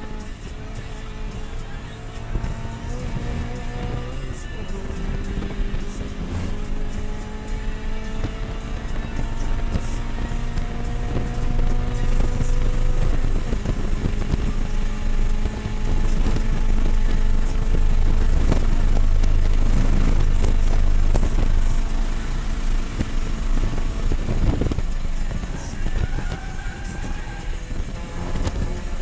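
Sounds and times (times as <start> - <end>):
car engine at full throttle: 0.0 - 29.0
wind and tyre noise: 0.0 - 29.0.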